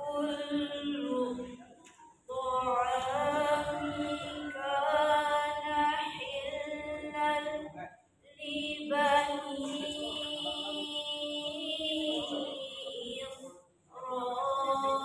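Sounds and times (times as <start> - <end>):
woman chanting melodically: 0.0 - 15.0.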